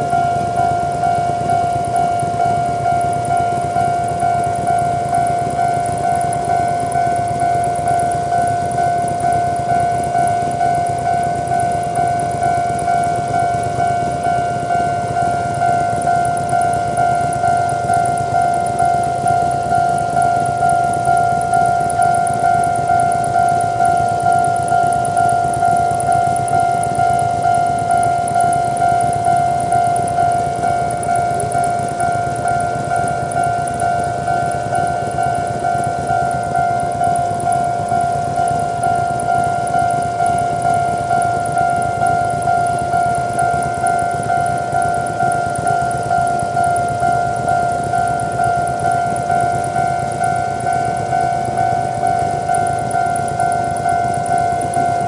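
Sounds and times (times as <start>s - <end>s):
level crossing warning bell: 0.0s - 55.0s.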